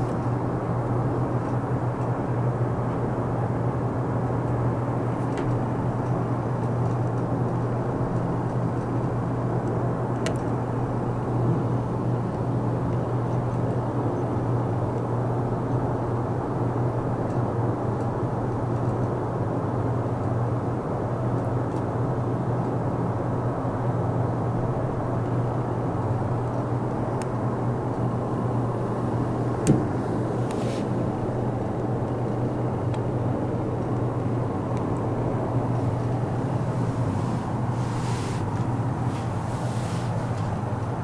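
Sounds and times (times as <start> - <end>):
low hum and rumble: 0.0 - 41.0.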